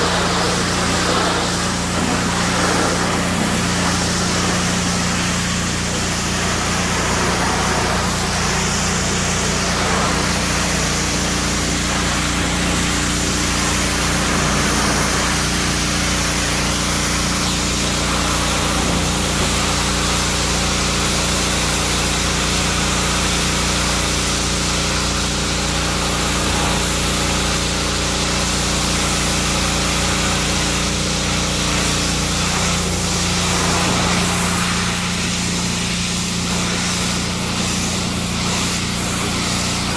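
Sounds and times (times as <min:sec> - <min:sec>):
high-pressure water jet hissing: 0:00.0 - 0:39.9
pressure washer motor humming: 0:00.0 - 0:39.9.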